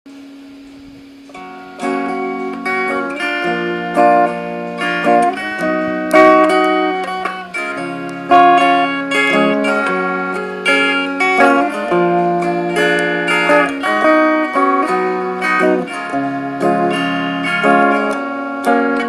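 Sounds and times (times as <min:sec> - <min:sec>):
plucked guitar melody: 0:00.6 - 0:19.0.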